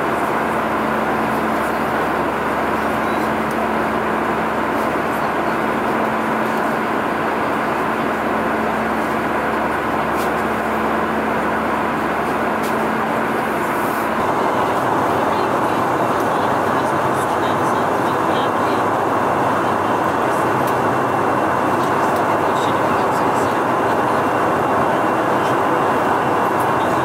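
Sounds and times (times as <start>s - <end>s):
airplane cabin roar: 0.0s - 27.0s
steady hum: 0.0s - 27.0s.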